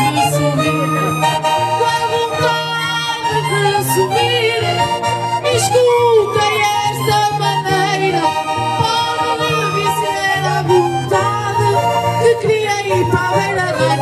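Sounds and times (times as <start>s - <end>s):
accordion melody: 0.0s - 14.0s
guitar: 0.0s - 14.0s.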